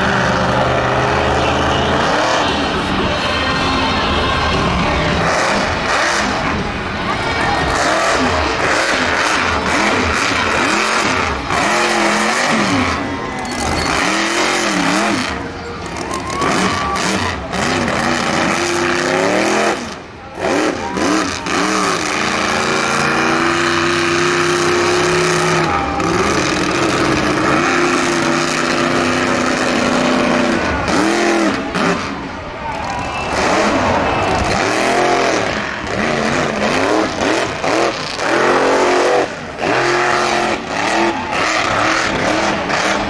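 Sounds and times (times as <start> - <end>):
truck engine revving hard: 0.0 - 43.0.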